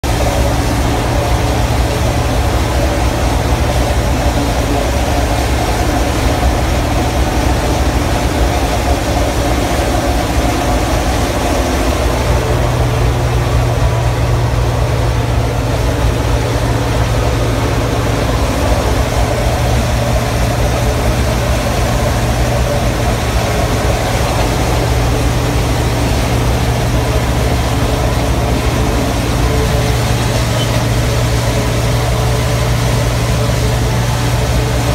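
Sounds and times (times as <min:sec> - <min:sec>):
farm machine engine drone: 0:00.0 - 0:34.9.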